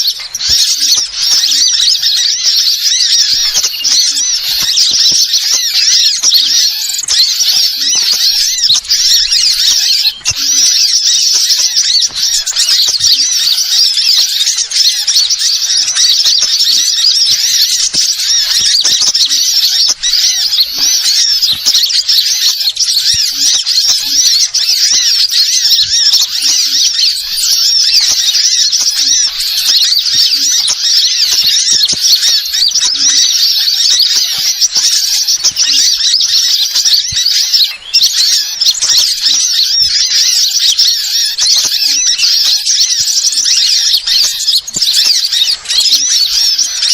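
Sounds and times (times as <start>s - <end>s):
small birds chirping and twittering: 0.0s - 46.9s.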